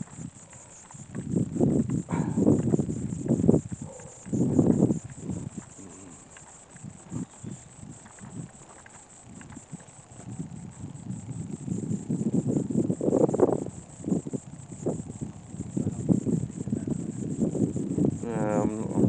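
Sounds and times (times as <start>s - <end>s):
high-pitched pulsing chirr: 0.0s - 19.0s.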